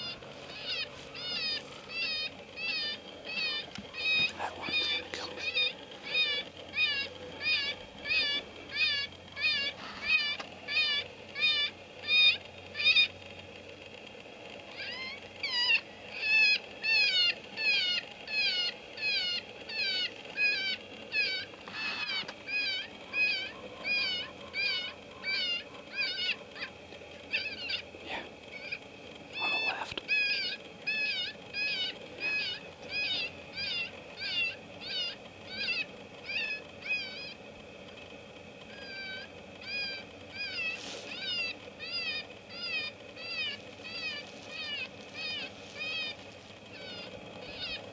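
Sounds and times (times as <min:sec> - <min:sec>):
high-pitched animal distress cries: 0:00.0 - 0:13.1, 0:14.7 - 0:37.4, 0:38.7 - 0:47.9.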